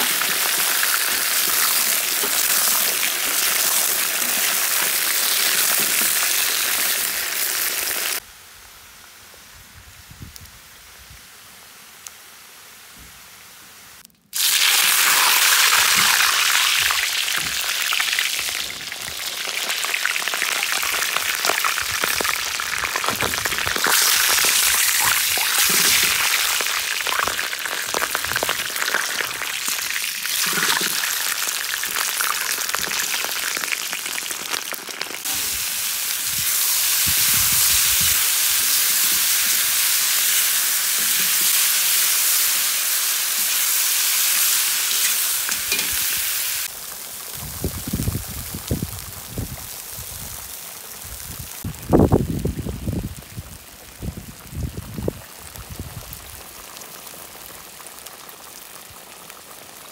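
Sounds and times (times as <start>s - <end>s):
meat sizzling in hot fat: 0.0s - 8.2s, 14.3s - 59.9s
vegetables frying: 0.0s - 8.2s, 14.3s - 59.9s.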